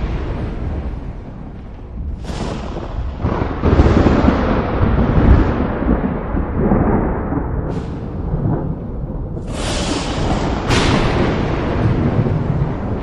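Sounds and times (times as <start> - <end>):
rolling thunder rumble: 0.0 - 13.0
thunder crack: 0.0 - 13.0.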